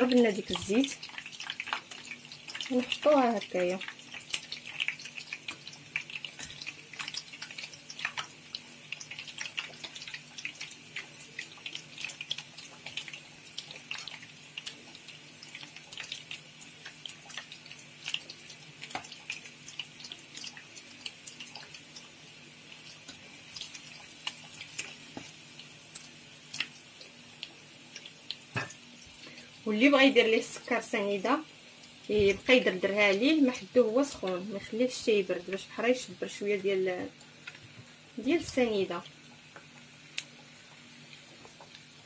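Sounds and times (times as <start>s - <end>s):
bread sizzling in hot oil: 0.0s - 42.0s.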